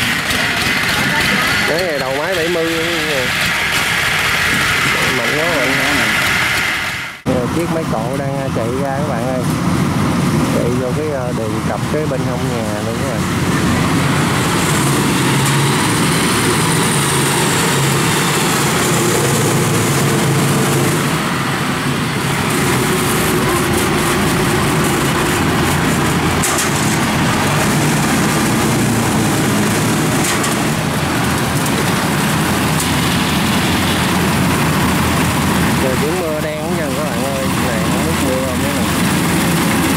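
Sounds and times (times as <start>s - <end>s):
tracked vehicle engine running: 0.0s - 39.9s.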